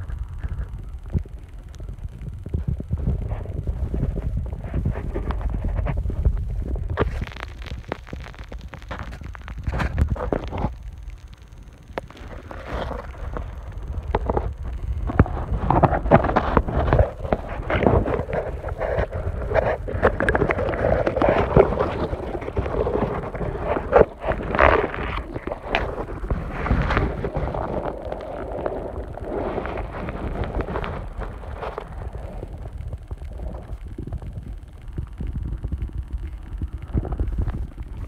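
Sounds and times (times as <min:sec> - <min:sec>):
muffled underwater water noise: 0:00.0 - 0:38.0.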